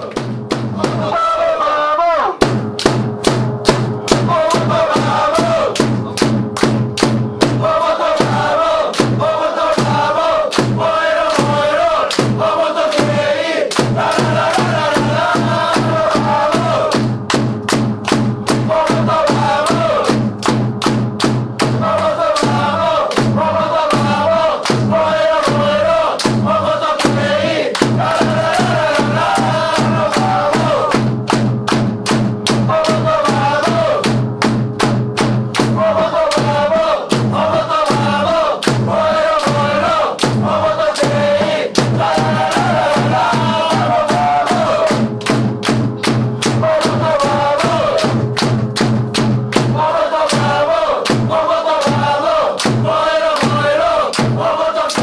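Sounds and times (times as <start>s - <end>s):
steady drumbeat: 0.0s - 1.5s, 2.3s - 55.0s
supporters singing a chant: 0.0s - 2.4s, 3.7s - 20.6s, 21.5s - 31.8s, 32.4s - 34.3s, 35.2s - 55.0s.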